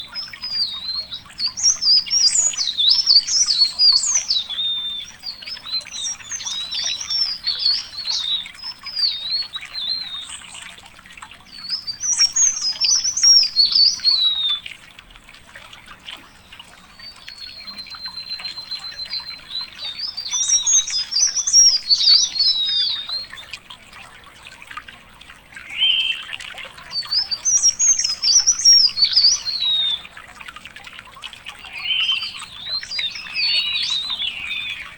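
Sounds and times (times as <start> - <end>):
songbird warbling: 0.0 - 10.8, 11.4 - 14.7, 16.2 - 23.6, 25.6 - 30.2, 31.4 - 34.9.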